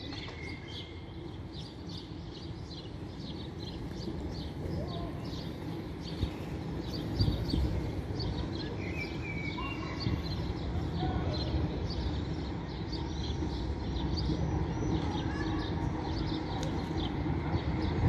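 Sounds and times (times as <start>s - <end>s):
low rumble of street noise: 0.0s - 18.0s
songbirds chirping: 0.0s - 18.0s.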